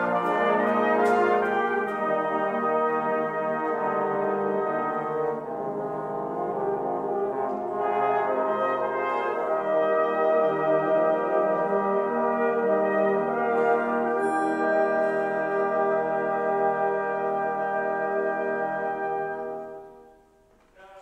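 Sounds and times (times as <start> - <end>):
brass band playing chords: 0.0 - 21.0.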